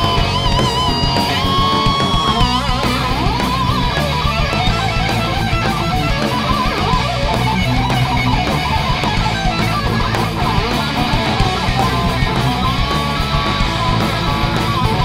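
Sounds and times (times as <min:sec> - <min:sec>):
distorted electric guitar lead: 0:00.0 - 0:15.0
heavy metal band playing live: 0:00.0 - 0:15.0.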